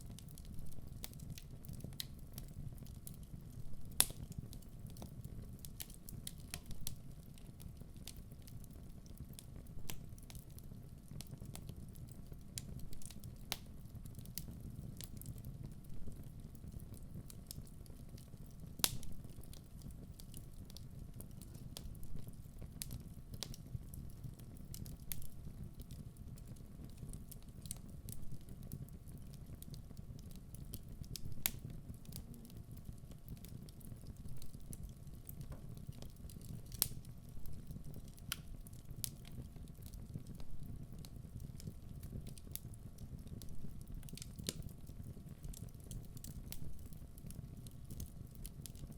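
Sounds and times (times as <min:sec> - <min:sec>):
fire flames rumbling: 0:00.0 - 0:48.9
logs popping and crackling: 0:00.2 - 0:15.4, 0:16.2 - 0:48.9.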